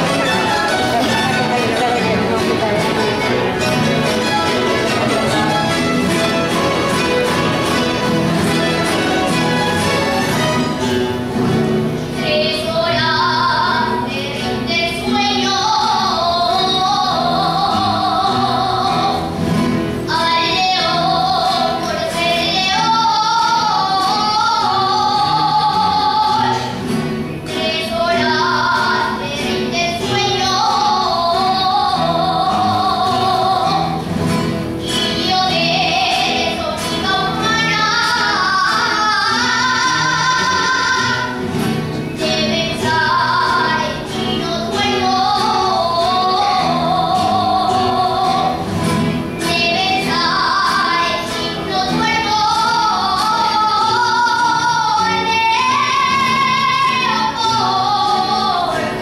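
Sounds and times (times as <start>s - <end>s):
woman singing with vibrato: 0.0s - 10.9s, 11.9s - 59.0s
instrumental accompaniment: 0.0s - 59.0s.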